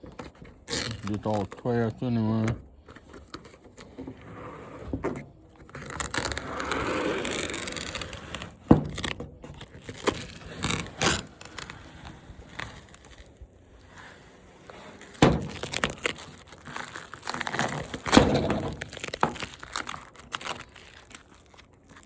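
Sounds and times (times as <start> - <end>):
scraping and rustling: 0.0 - 22.0.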